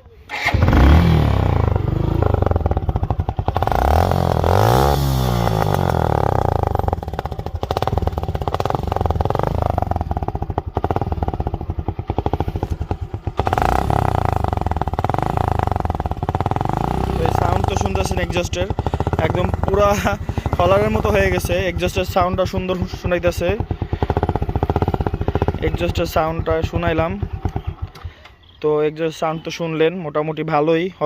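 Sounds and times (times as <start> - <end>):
motorcycle engine revving: 0.1 - 28.6.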